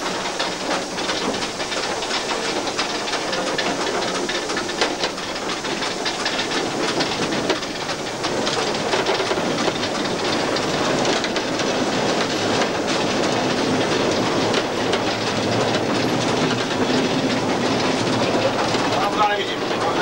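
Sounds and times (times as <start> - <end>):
steam locomotive wheels clattering: 0.0 - 20.0.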